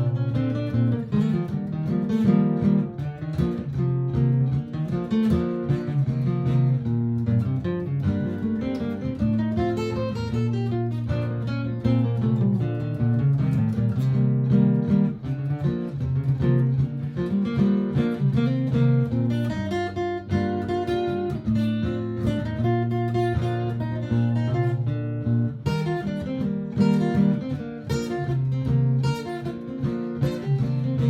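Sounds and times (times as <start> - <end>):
acoustic guitar looped parts: 0.0 - 31.0.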